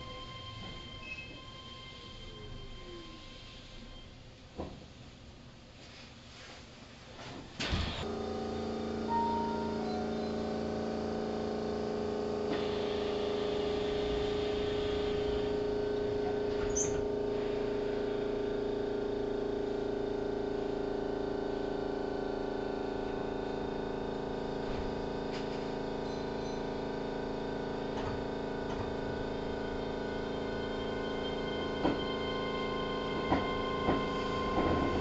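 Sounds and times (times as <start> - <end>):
train carriage electrical hum: 0.0 - 35.0.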